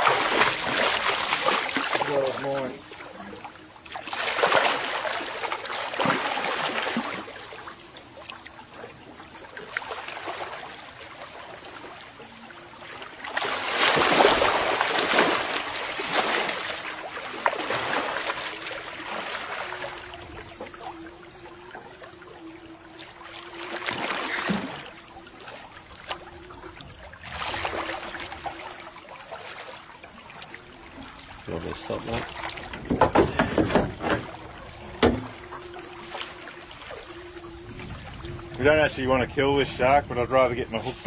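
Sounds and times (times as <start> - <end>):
soft wash of water: 0.0 - 41.0
water splashing: 0.0 - 41.0.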